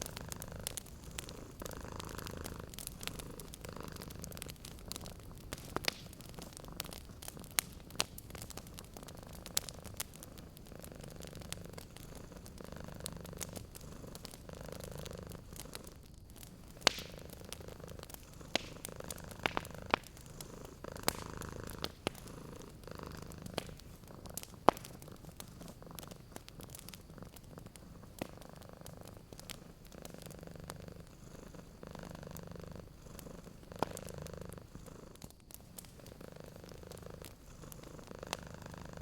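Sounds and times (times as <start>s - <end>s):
cat purring: 0.0s - 39.0s
wood fire crackling and popping: 0.0s - 39.0s.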